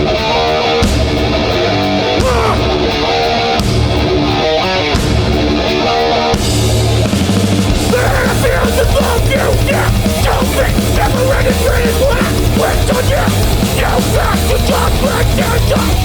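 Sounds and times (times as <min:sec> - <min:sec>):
punk band playing live: 0:00.0 - 0:16.0.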